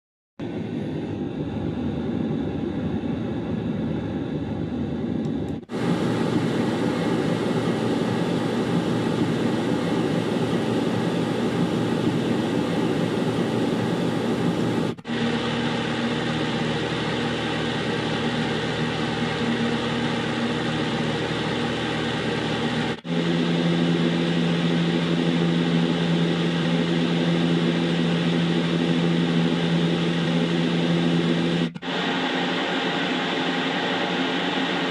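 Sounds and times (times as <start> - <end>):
white noise machine drone: 0.4 - 34.9.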